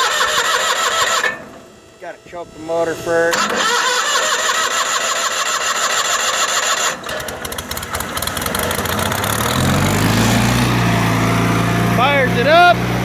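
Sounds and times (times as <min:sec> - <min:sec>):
small gasoline engine running: 0:00.0 - 0:01.8, 0:03.2 - 0:13.0
electric starter whine: 0:00.0 - 0:13.0.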